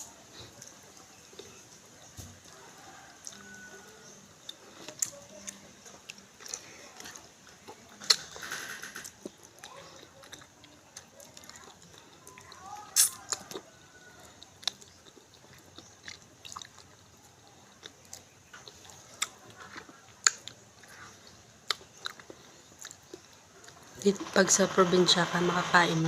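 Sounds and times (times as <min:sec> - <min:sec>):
chewing with crunches: 0:00.0 - 0:25.0.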